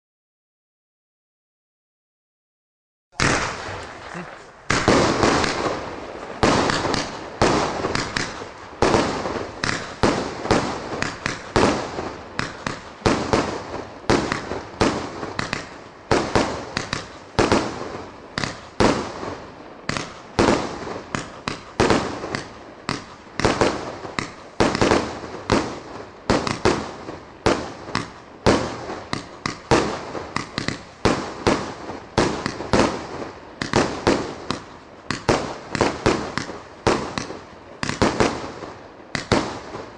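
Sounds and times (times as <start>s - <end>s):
fireworks bangs: 3.2s - 39.9s.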